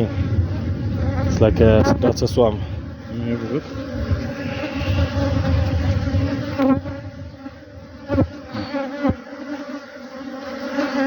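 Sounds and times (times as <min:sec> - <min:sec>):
bee buzzing past: 0:00.0 - 0:11.0
bee colony humming: 0:00.0 - 0:11.0.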